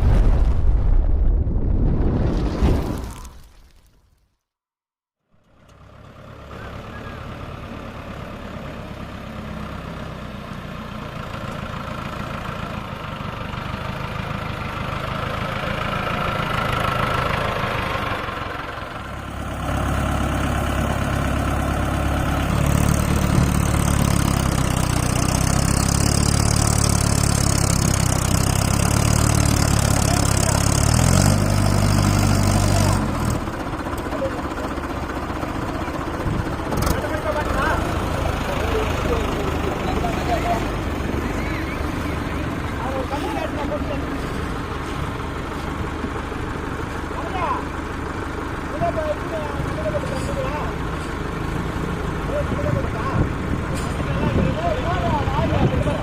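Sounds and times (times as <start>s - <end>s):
heavy diesel engine running: 5.4s - 56.0s.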